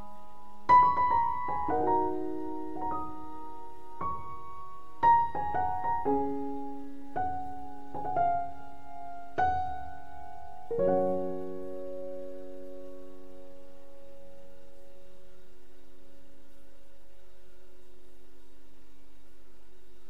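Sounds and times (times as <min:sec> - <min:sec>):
slow gentle piano: 0:00.0 - 0:20.0.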